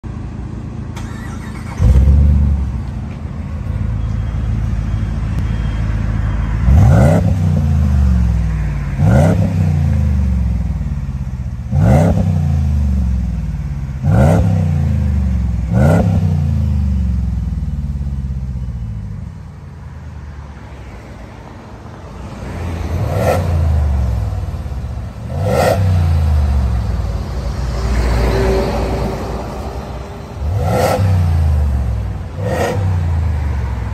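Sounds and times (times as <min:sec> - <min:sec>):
truck engine idling and revving: 0:00.0 - 0:33.9.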